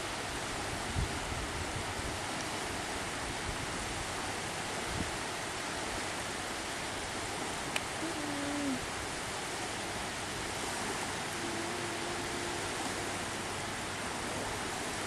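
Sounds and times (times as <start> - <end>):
surf washing onto sandy beach: 0.0 - 15.0.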